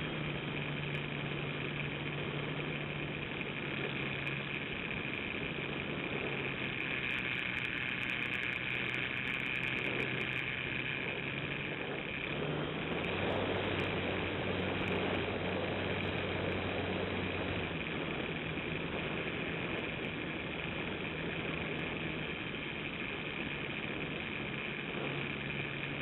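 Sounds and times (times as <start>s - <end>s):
model airplane motor running: 0.0s - 26.0s.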